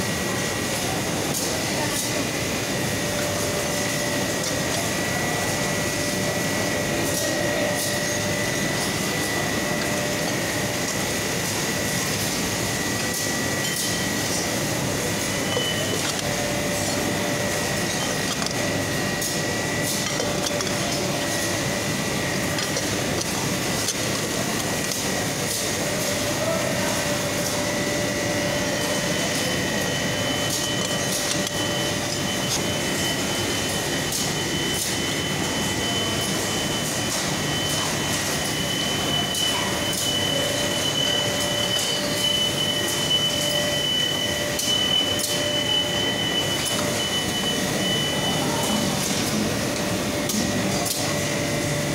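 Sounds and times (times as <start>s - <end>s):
machinery hum: 0.0s - 51.9s.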